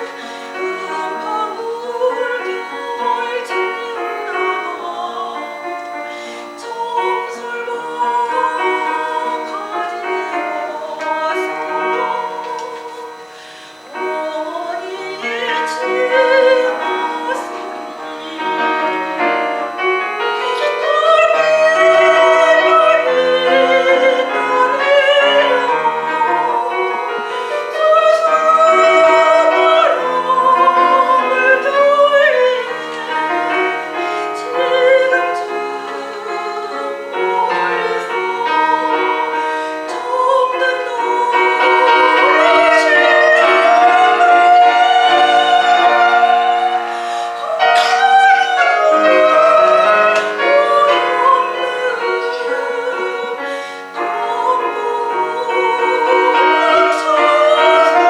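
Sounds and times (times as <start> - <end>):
piano accompaniment: 0.0 - 58.0
soprano singing: 0.0 - 58.0.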